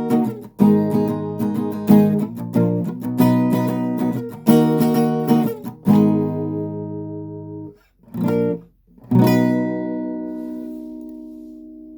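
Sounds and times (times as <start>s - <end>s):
strummed guitar chords: 0.0s - 11.8s.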